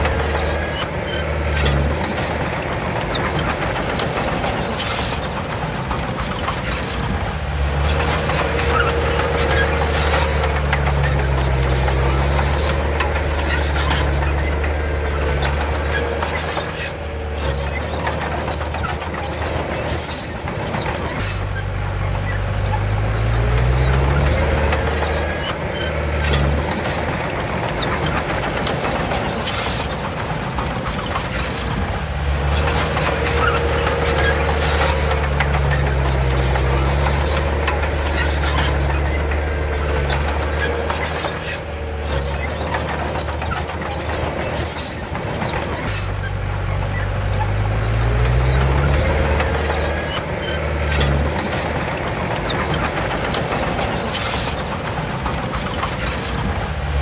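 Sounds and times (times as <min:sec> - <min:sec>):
bulldozer diesel engine revving: 0:00.0 - 0:57.0
running gear clanks: 0:00.0 - 0:57.0
squeal: 0:00.0 - 0:57.0.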